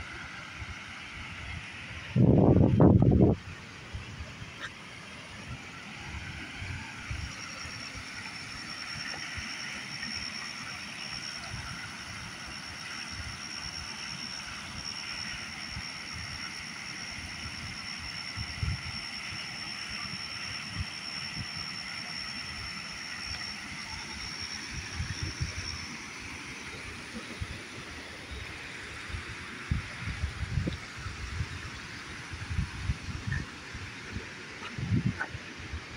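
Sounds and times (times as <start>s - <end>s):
thin high whine: 0.0s - 35.9s.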